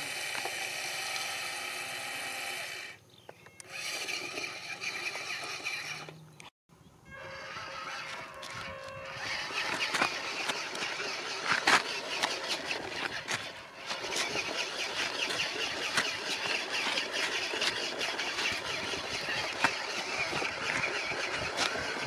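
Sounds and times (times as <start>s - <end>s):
small motor and gearing whirring: 0.0s - 6.5s, 7.1s - 22.0s.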